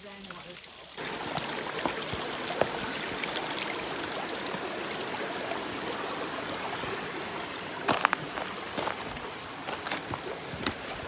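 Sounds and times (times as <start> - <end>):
creek and waterfall rushing: 0.0 - 11.0.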